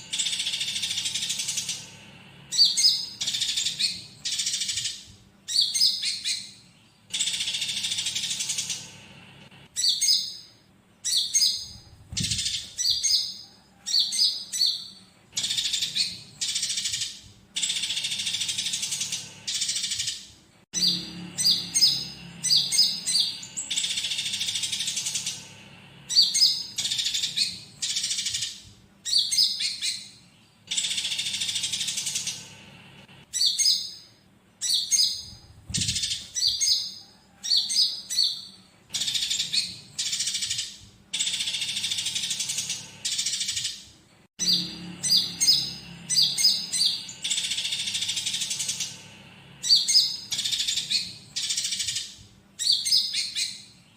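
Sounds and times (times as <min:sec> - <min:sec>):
sparrows chattering: 0:00.0 - 0:53.9.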